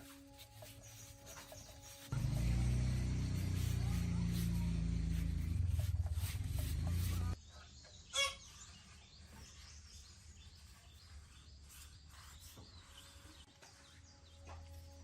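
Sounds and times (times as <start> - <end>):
light bird chirps: 0.2 - 15.0.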